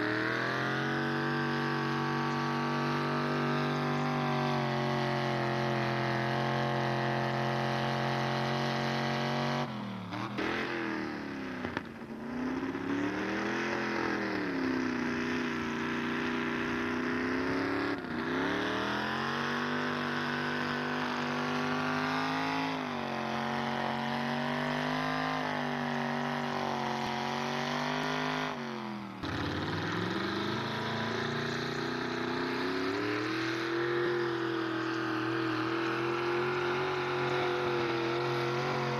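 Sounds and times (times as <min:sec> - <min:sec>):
truck engine revving under load: 0:00.0 - 0:38.9.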